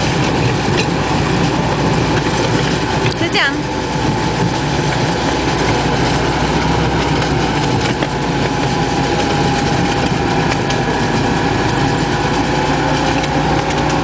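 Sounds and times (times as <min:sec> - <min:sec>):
train engine and wheels rumbling: 0:00.0 - 0:14.0.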